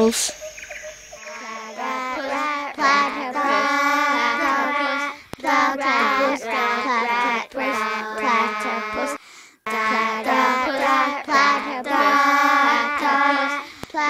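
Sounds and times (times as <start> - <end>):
child singing: 1.2 - 14.0.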